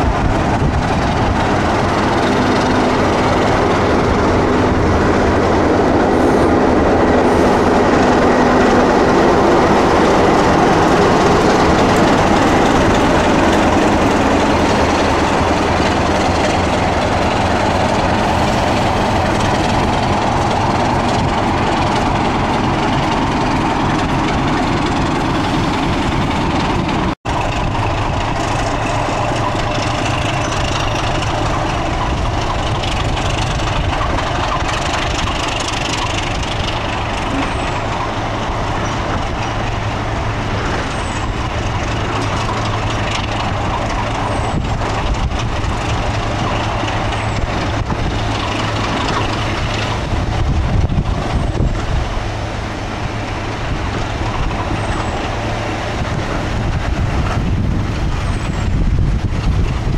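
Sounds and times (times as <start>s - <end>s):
diesel locomotive engine drone: 0.0s - 59.9s
low diesel engine hum: 0.0s - 59.9s.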